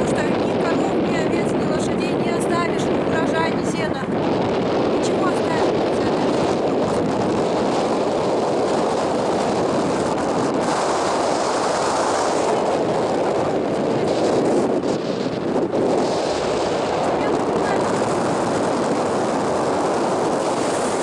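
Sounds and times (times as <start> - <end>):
wind rush on microphone: 0.0 - 21.0.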